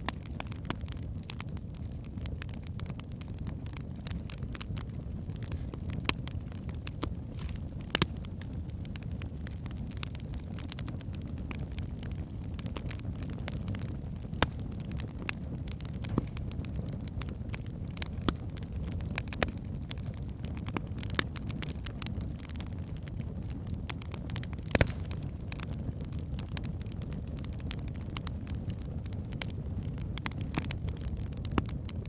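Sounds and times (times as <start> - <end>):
flames rumbling: 0.0 - 32.0
logs crackling and popping: 0.0 - 32.0.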